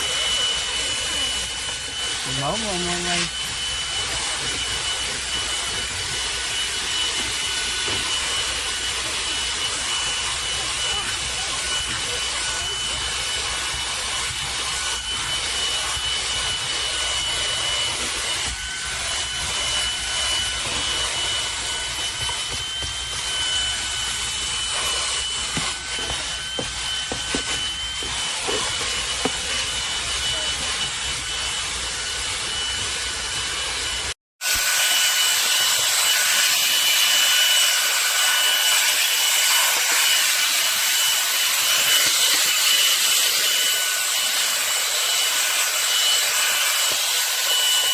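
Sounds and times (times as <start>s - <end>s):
stick vacuum running: 0.0s - 47.9s.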